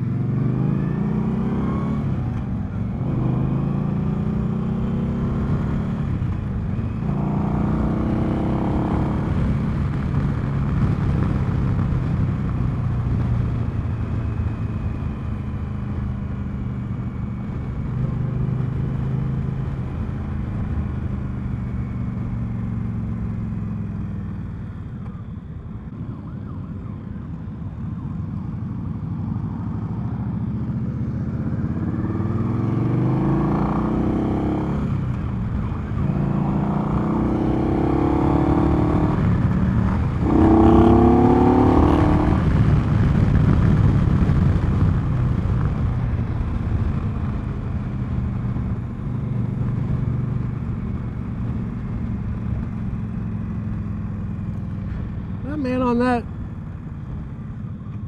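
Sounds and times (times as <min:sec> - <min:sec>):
motorcycle engine revving: 0:00.0 - 0:24.6, 0:28.6 - 0:56.2.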